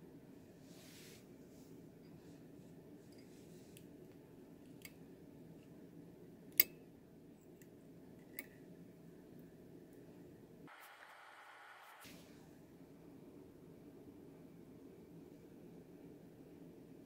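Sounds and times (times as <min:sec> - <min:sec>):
faint steady low hum: 0:00.0 - 0:17.0.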